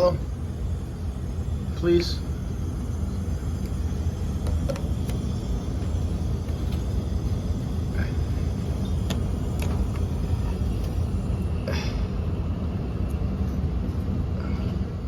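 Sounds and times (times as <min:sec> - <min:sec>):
air handler humming: 0:00.0 - 0:15.0.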